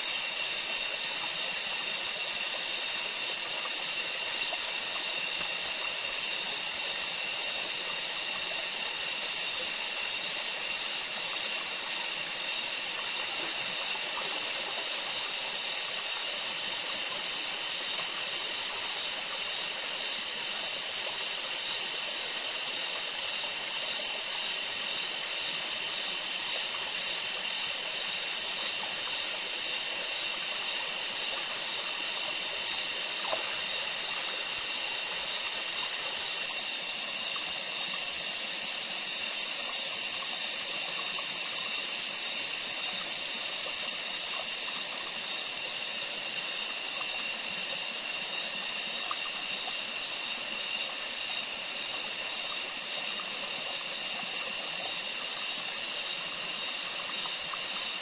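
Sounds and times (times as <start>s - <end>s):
high-pitched outdoor hiss: 0.0s - 58.0s.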